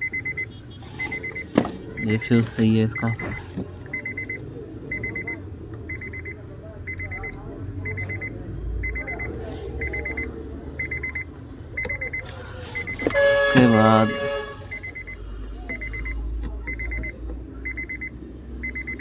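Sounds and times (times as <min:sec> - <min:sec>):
car warning chime beeping: 0:00.0 - 0:19.0.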